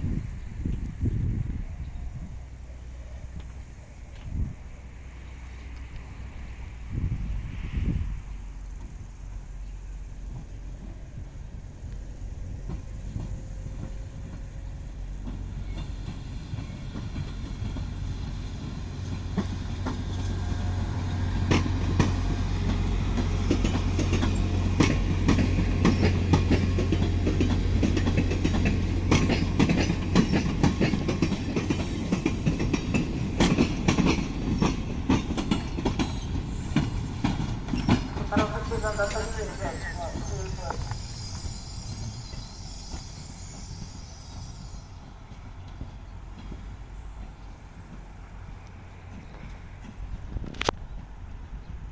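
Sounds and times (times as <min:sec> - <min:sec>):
train low drone: 0:00.0 - 0:51.9
train wheels clicking over rail joints: 0:08.2 - 0:51.4.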